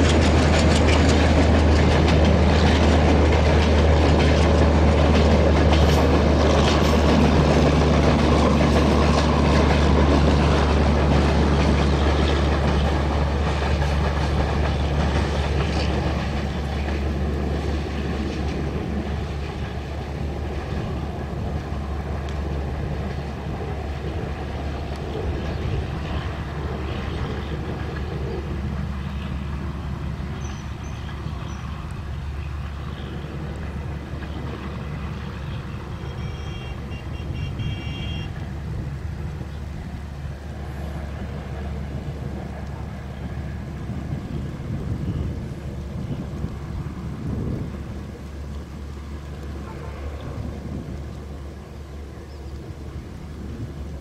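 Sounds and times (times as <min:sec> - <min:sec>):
train wheels clattering on rails: 0:00.0 - 0:53.0
locomotive low drone: 0:00.0 - 0:54.0.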